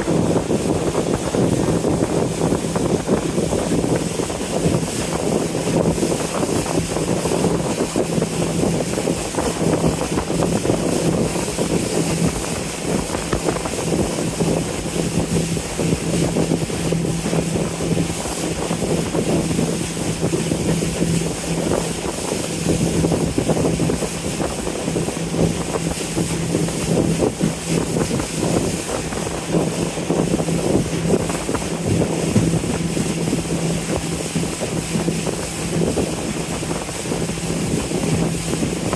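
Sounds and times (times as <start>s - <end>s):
boat engine humming: 0.0s - 38.9s
water noise: 0.0s - 38.9s
wind buffeting microphone: 0.0s - 38.9s.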